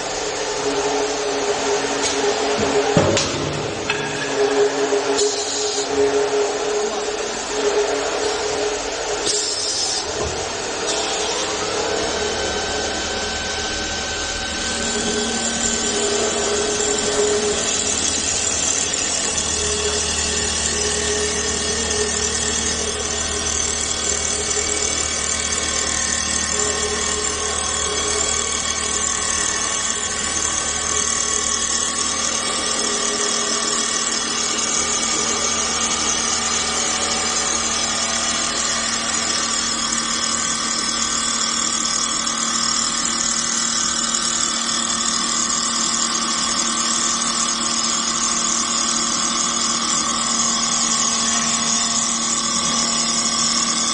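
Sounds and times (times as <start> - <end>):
wood lathe machining: 0.0 - 53.9.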